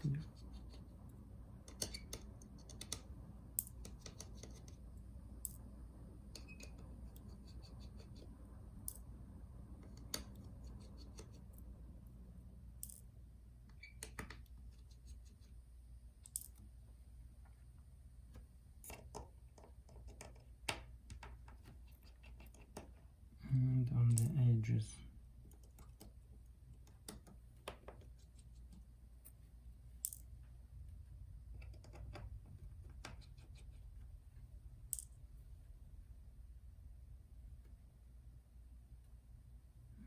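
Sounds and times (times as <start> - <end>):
steady low hum: 0.0 - 13.8, 20.5 - 40.0.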